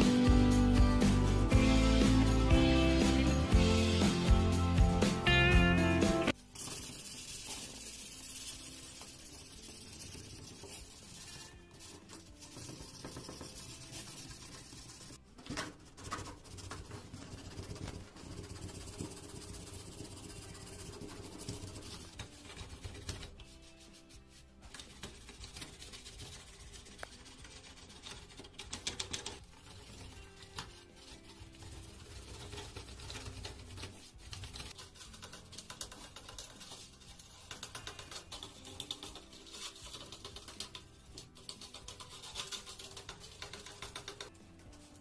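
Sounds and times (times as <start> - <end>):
hand rubbing and scraping brass: 6.3 - 45.0.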